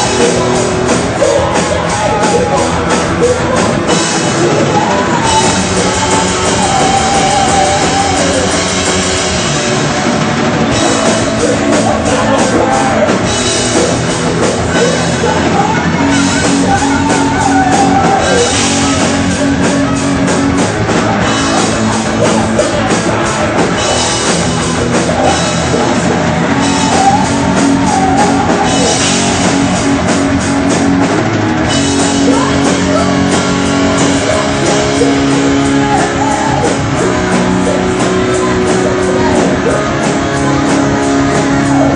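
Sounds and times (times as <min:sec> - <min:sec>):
man singing: 0:00.0 - 0:09.1, 0:10.7 - 0:29.8, 0:32.1 - 0:41.9
distorted electric guitars: 0:00.0 - 0:41.9
fast rock drum beat: 0:00.0 - 0:41.9.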